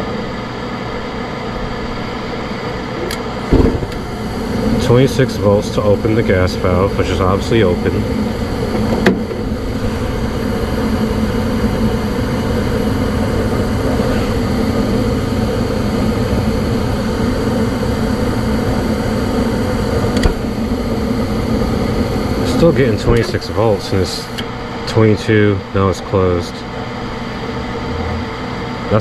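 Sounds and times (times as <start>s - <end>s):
gas furnace humming and rushing: 0.0s - 29.0s.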